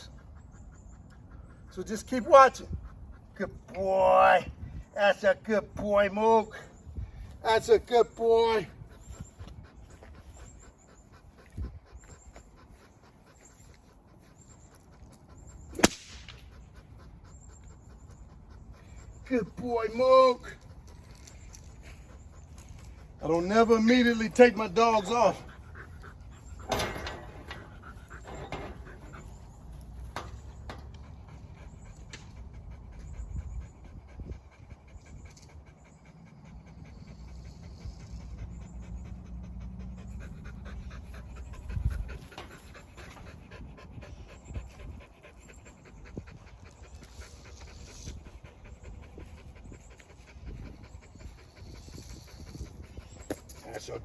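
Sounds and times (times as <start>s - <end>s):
puppy panting: 0.0s - 3.9s, 4.5s - 54.0s.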